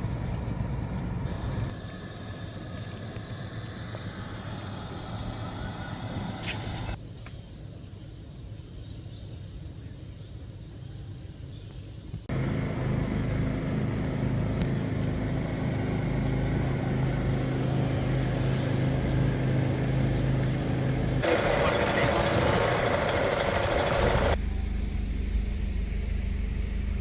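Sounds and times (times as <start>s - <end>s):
steady engine-like hum: 0.0s - 7.0s, 12.3s - 27.0s.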